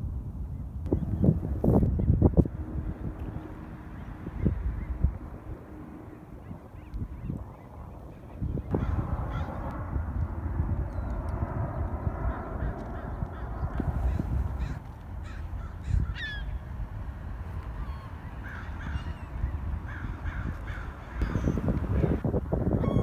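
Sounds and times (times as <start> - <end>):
steady low rumble: 0.0 - 23.0
birds calling: 0.6 - 22.2
rush of low noise: 0.8 - 21.2.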